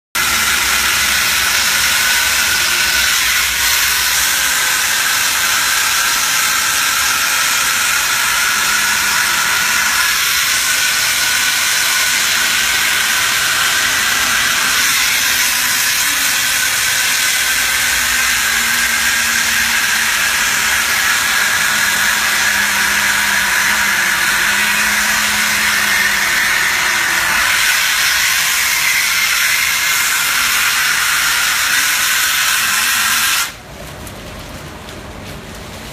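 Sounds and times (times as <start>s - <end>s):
faint whine rising in pitch: 0.2s - 31.7s
stripping tool hissing: 0.2s - 33.6s.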